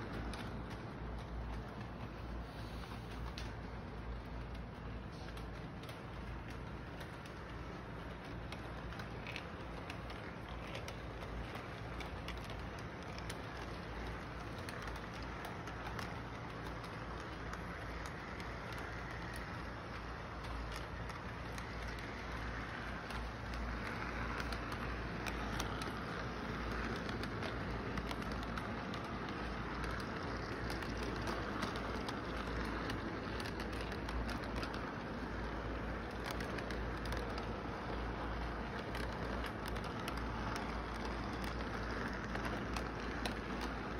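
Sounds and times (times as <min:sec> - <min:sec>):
faint clicks: 0:00.0 - 0:43.9
low steady hum: 0:00.0 - 0:43.9
model train motor whirring: 0:00.0 - 0:43.9.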